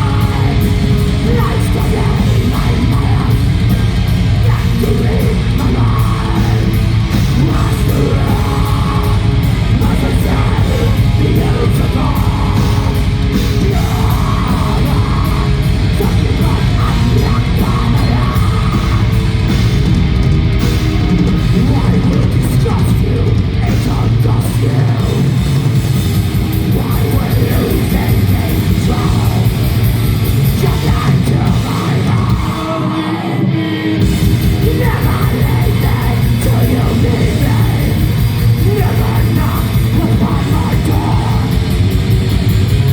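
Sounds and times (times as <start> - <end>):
harsh yelled vocals: 0.0 - 42.9
metal band playing live: 0.0 - 42.9.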